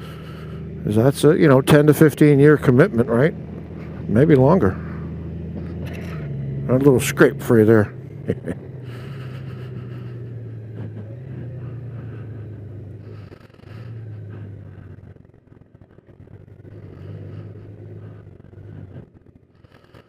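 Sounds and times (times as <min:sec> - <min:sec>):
motorcycle engine low hum: 0:00.0 - 0:20.0.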